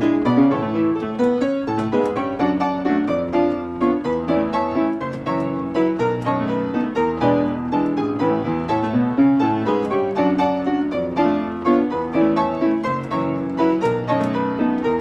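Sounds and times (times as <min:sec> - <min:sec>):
player piano playing: 0:00.0 - 0:15.0.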